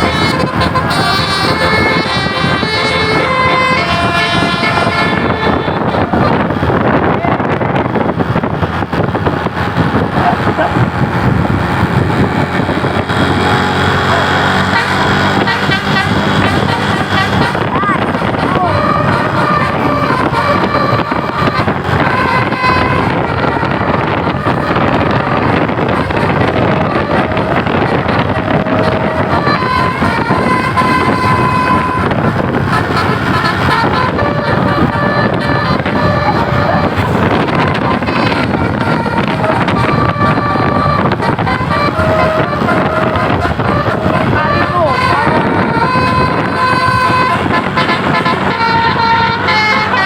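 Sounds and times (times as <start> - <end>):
bus engine running: 0.0 - 50.0
heavy wind: 0.0 - 50.0
multi-tone musical horn: 0.0 - 50.0
traffic noise: 0.0 - 50.0.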